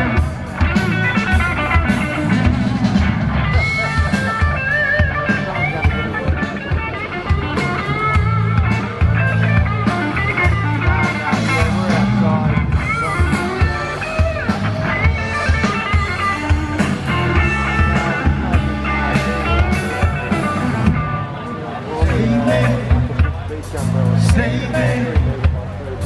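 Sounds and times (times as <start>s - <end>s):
electric guitar lead bending notes: 0.0s - 25.8s
blues-rock band playing: 0.0s - 26.0s.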